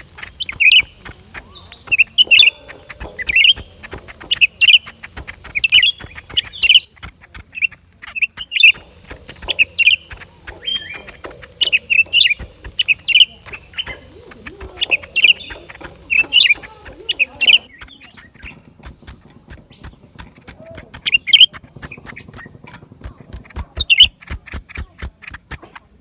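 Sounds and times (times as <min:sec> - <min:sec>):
bird chirping: 0:00.0 - 0:25.9
fast dry clicks: 0:00.0 - 0:26.0.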